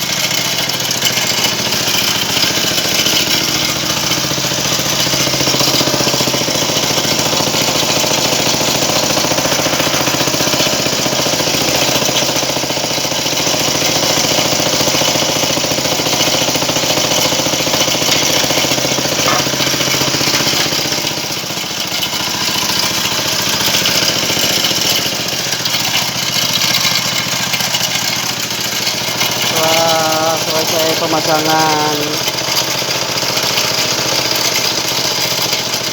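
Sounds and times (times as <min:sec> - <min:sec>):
small engine running: 0:00.0 - 0:35.9.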